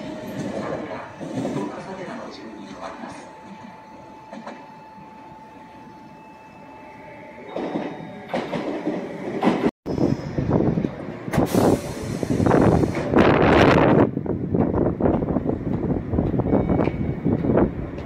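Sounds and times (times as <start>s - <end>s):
electric train rumble and rail clatter: 0.0s - 18.0s.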